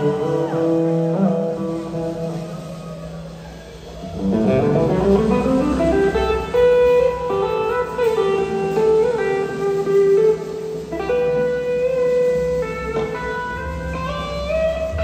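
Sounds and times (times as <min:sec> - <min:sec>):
blues-rock band with electric guitars: 0:00.0 - 0:15.0.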